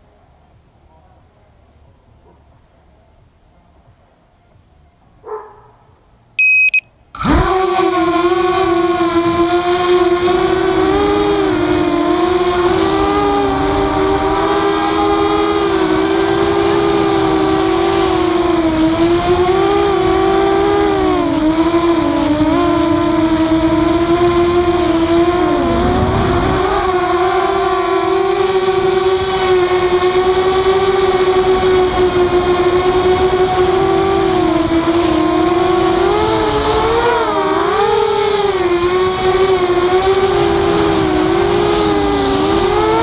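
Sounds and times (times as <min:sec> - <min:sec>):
drone motors buzzing whine: 0:05.9 - 0:43.0.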